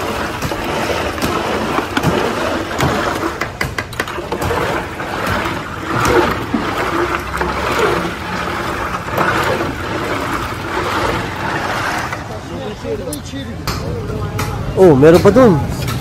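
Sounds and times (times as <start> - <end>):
liquid splashing and sloshing: 0.0 - 12.9
noisy street background: 0.0 - 16.0.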